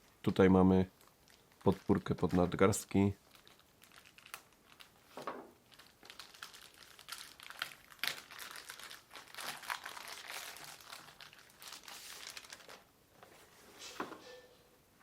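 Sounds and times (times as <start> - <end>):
packaging crinkling and rustling: 0.2 - 12.9.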